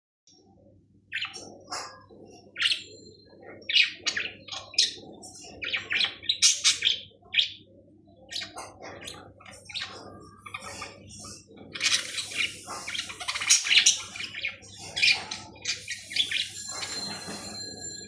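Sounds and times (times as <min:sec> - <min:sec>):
budgerigars chirping: 0:01.1 - 0:07.6, 0:08.2 - 0:17.5.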